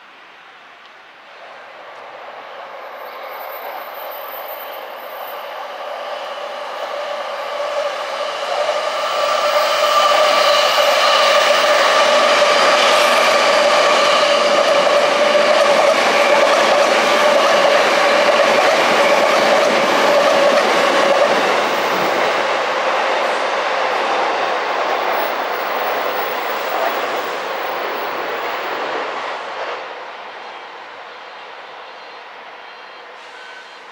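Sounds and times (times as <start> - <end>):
electric train whine: 0.0 - 33.9
train running noise: 0.0 - 33.9.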